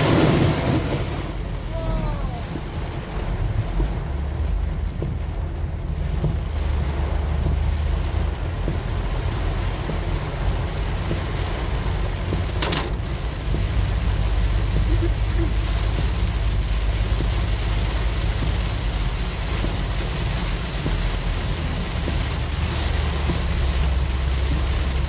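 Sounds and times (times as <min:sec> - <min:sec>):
rain beating on a car: 0:00.0 - 0:25.0
road and engine rumble: 0:00.0 - 0:25.0.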